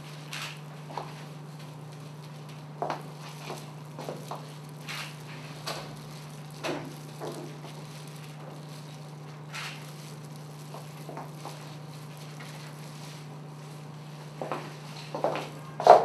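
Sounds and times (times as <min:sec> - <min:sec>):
low electrical hum: 0:00.0 - 0:16.0
soft squishing and rubbing: 0:01.1 - 0:15.0.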